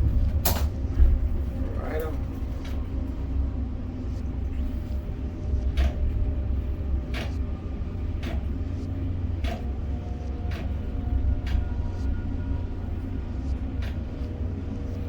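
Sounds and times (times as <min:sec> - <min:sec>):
crane machinery rumbling: 0:00.0 - 0:15.0.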